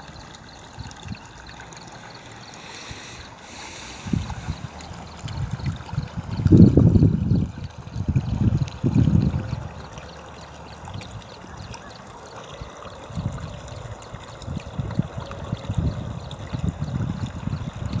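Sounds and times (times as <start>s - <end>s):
rainwater flowing and trickling: 0.0s - 18.0s.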